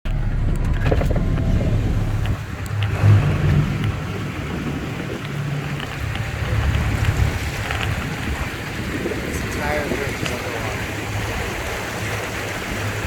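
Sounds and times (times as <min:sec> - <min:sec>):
rumble of wind: 0:00.0 - 0:13.0.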